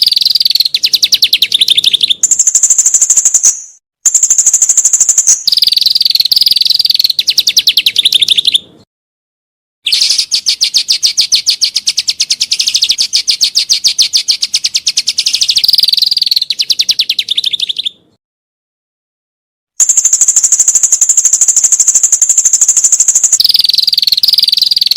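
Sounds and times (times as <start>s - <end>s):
songbird trilling: 0.0s - 8.7s, 9.9s - 18.1s, 19.8s - 24.9s.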